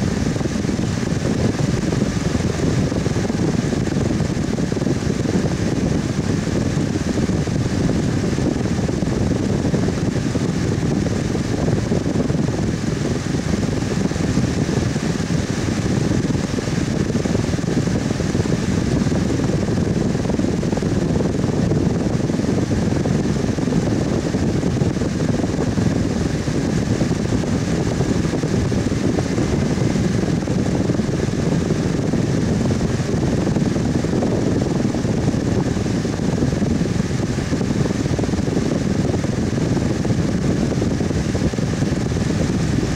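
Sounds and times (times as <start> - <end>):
fan whooshing: 0.0 - 42.9.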